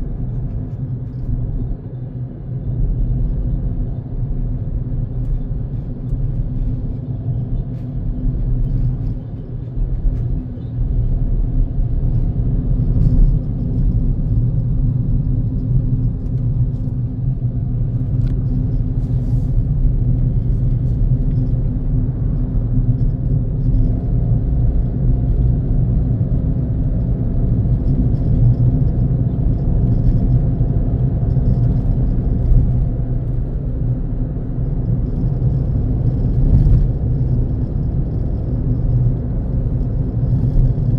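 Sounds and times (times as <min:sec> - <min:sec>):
car engine hum: 0:00.0 - 0:40.9
road rumble: 0:00.0 - 0:40.9.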